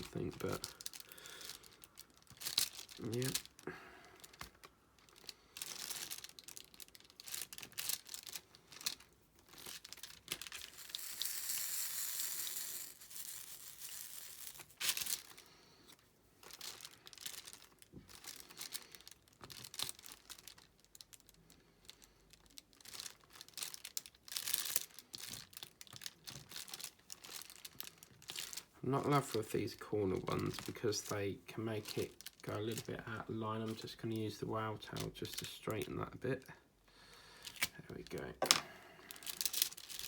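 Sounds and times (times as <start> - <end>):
plastic crinkling: 0.0 - 36.6, 37.3 - 40.0.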